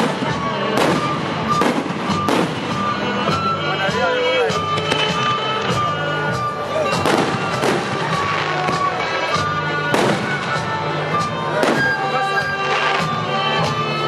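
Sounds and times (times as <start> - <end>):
fireworks bursting: 0.0 - 14.0
music: 0.0 - 14.0.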